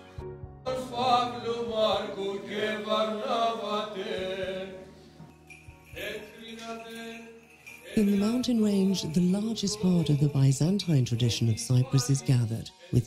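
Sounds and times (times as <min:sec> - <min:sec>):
men singing church chant: 0:00.7 - 0:05.1, 0:05.8 - 0:13.0.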